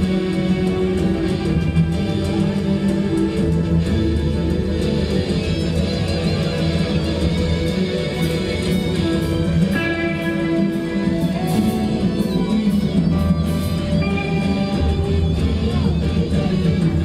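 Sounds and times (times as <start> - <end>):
guitar music over sound system: 0.0 - 17.0.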